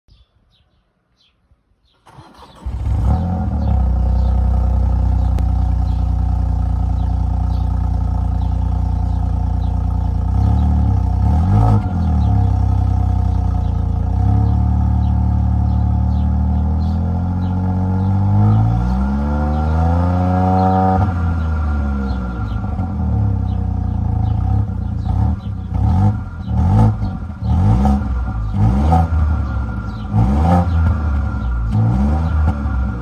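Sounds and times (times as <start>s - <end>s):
car engine starting and idling: 1.8s - 33.0s
engine revving: 2.0s - 33.0s.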